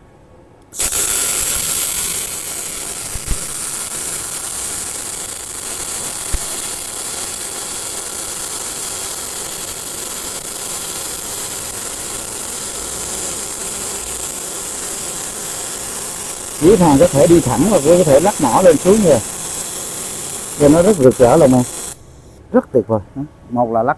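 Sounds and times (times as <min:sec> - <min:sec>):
welding pop: 0:00.7 - 0:22.0
welding arc sizzling hiss: 0:00.7 - 0:22.3.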